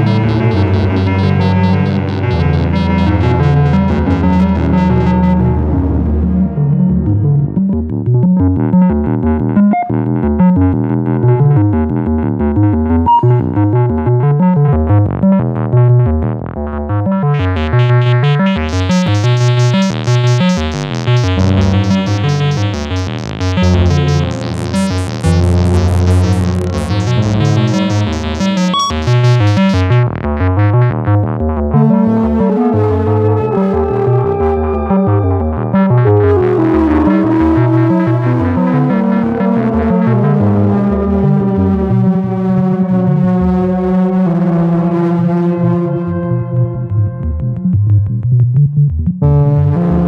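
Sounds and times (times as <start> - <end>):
low synth bass: 0.0 - 50.0
synthesizer sequenced pattern: 0.0 - 50.0.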